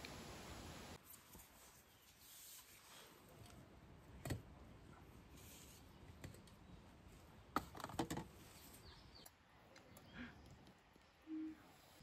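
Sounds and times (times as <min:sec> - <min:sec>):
faint birdsong: 0:01.6 - 0:12.0.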